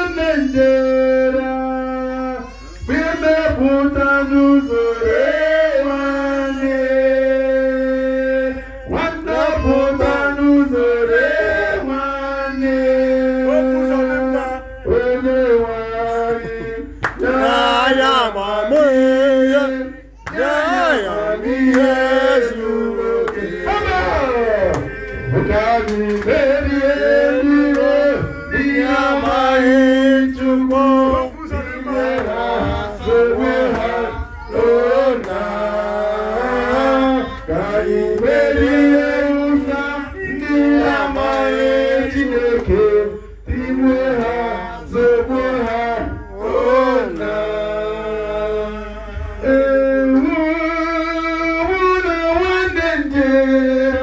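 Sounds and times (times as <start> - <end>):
man singing into microphone: 0.0 - 54.0.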